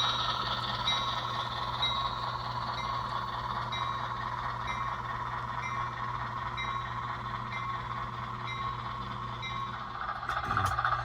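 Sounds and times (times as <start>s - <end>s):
diesel engine idling: 0.0s - 10.4s.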